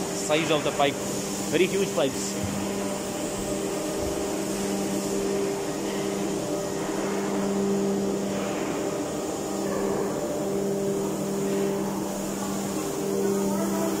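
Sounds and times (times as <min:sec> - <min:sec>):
engine-room machinery drone: 0:00.0 - 0:14.0.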